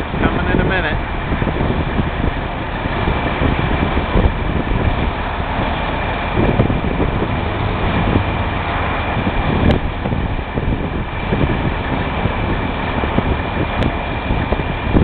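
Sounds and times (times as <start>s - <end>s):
heavy vehicle engines rumbling: 0.0s - 15.0s
wind buffeting microphone: 0.0s - 15.0s.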